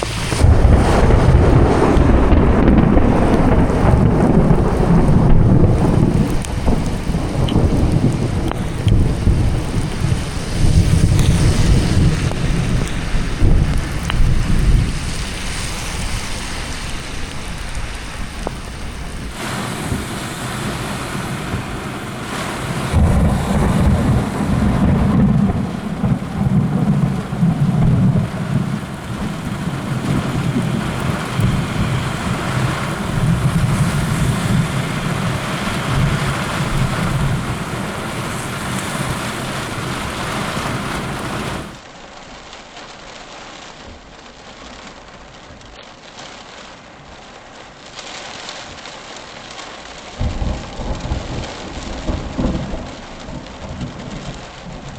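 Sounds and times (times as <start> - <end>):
rolling thunder: 0.0 - 41.8, 50.2 - 54.9
heavy rain: 0.0 - 54.9.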